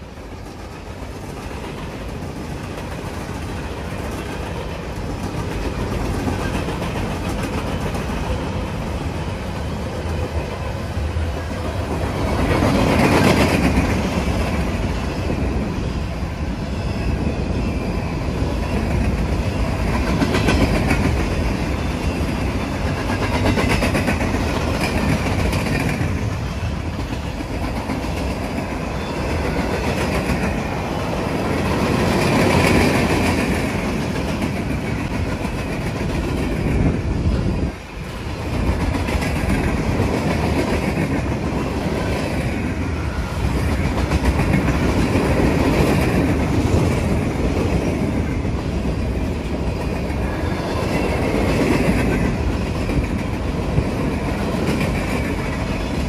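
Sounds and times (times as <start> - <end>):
clickety-clack over rail joints: 0.0 - 56.0
train wheels rumbling on rails: 0.0 - 56.0.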